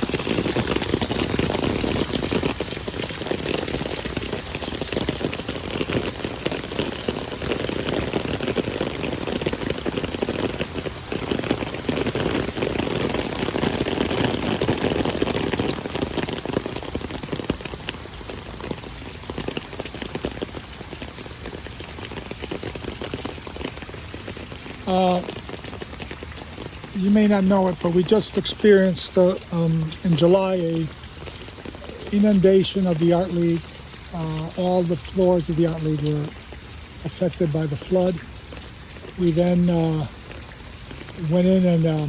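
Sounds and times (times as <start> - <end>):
heavy rain on pavement: 0.0 - 42.0.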